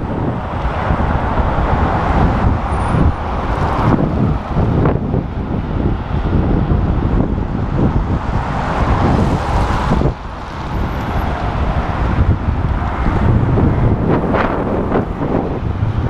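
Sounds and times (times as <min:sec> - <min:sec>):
road traffic: 0:00.0 - 0:16.0
wind buffeting microphone: 0:00.0 - 0:16.0.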